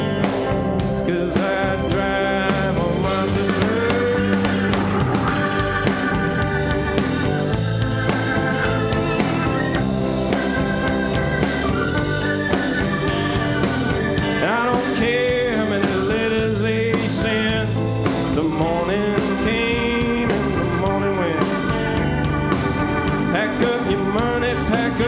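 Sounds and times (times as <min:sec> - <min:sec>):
country-rock band playing: 0:00.0 - 0:25.0
sliding lead guitar line: 0:00.0 - 0:25.0.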